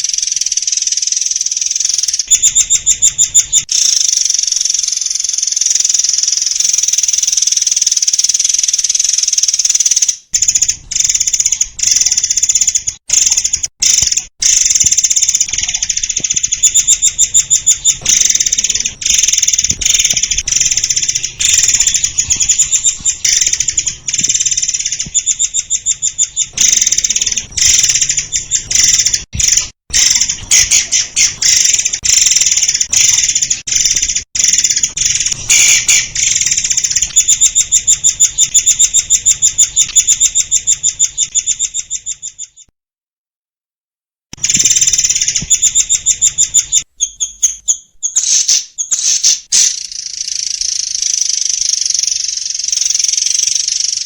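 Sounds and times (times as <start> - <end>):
songbird chirping and trilling: 0.0 - 42.7, 44.4 - 54.0.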